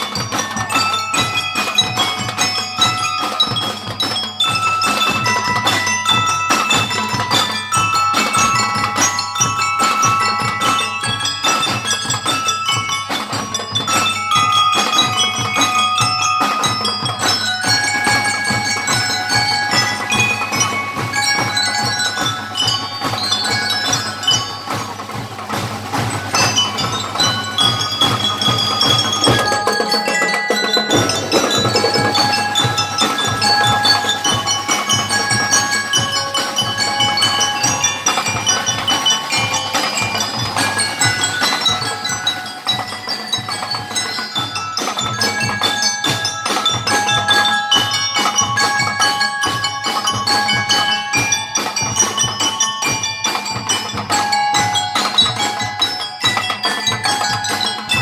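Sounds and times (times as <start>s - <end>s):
drums beating steady rhythm: 0.0s - 58.0s
lyre bells bright melody: 0.0s - 58.0s.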